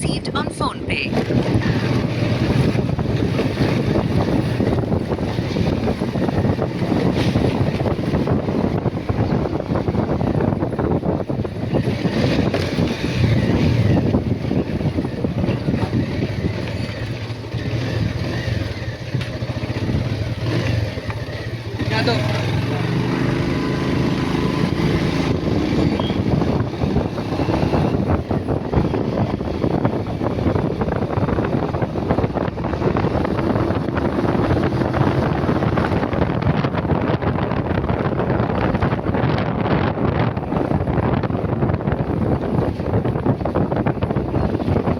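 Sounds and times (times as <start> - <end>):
motorcycle engine rumbling: 0.0 - 44.9
wind buffeting microphone: 0.0 - 44.9.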